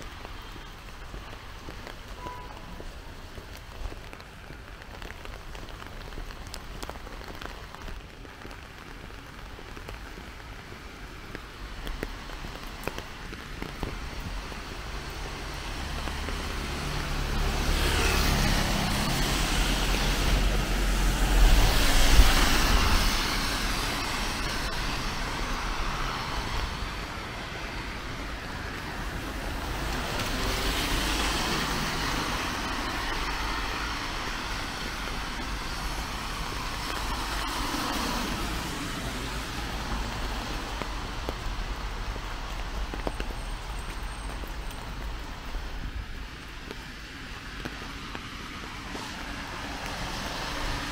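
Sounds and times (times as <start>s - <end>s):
tyres hissing on wet road: 0.0s - 50.9s.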